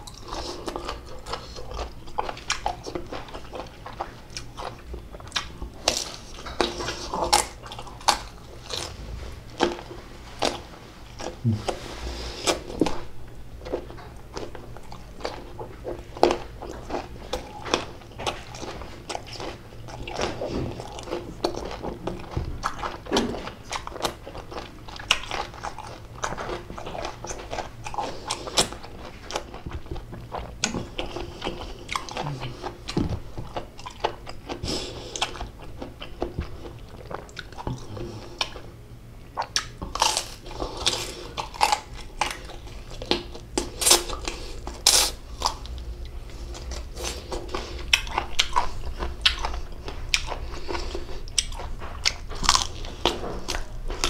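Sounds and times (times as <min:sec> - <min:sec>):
crunching and chewing mango: 0:00.0 - 0:54.0.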